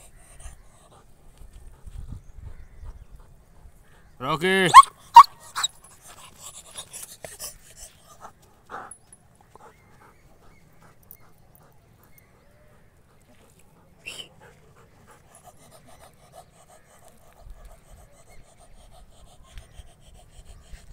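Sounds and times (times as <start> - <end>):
dog panting: 0.0 - 20.9.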